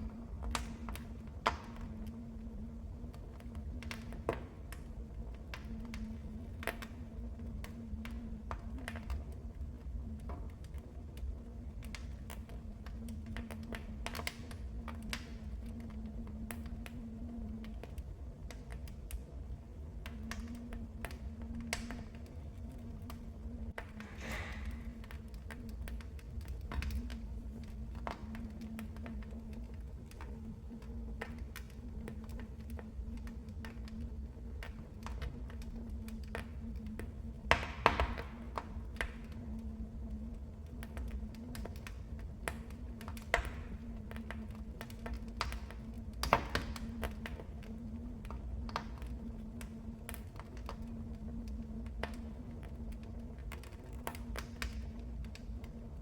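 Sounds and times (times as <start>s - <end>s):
low rumble of burning: 0.0s - 56.0s
wood fire crackling and popping: 0.0s - 56.0s.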